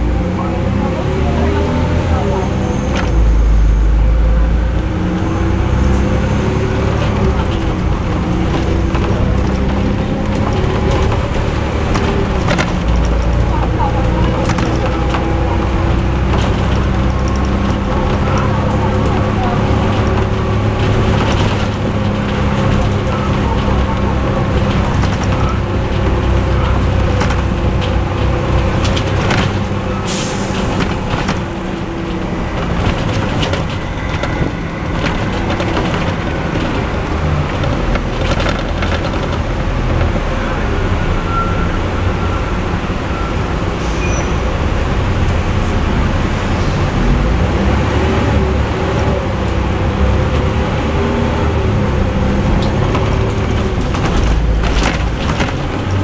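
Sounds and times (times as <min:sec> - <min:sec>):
bus body rattles: 0:00.0 - 0:56.0
bus diesel engine running: 0:00.0 - 0:56.0.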